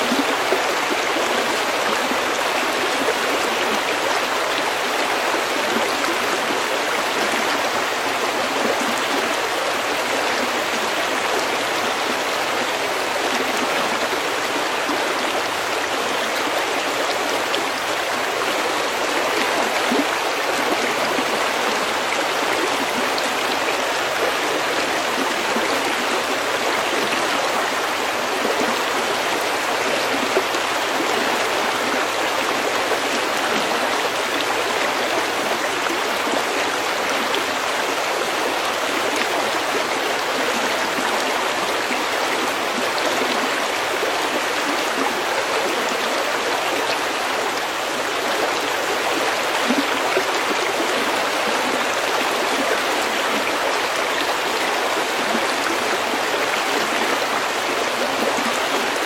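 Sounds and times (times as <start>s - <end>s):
stream water over stones: 0.0s - 59.0s.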